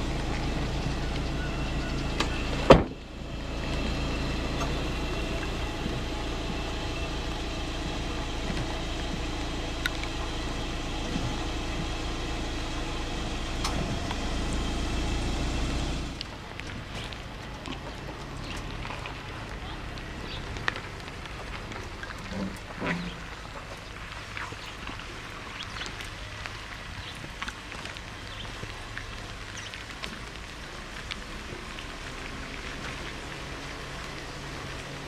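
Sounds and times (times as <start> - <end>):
car engine and tyres drone: 0.0 - 35.0
outdoor ambience: 0.0 - 35.0.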